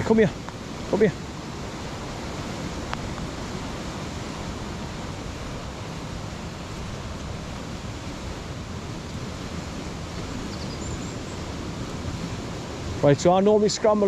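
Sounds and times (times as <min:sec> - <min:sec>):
waterfall and rapids roaring: 0:00.0 - 0:14.0.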